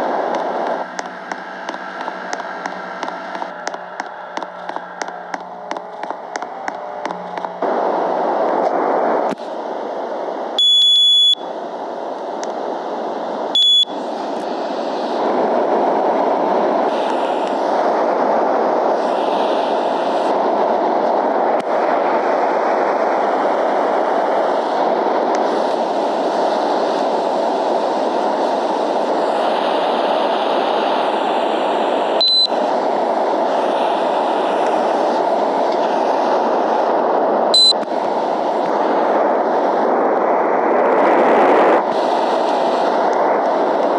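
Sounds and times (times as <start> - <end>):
air conditioner fan rushing: 0.0 - 37.2.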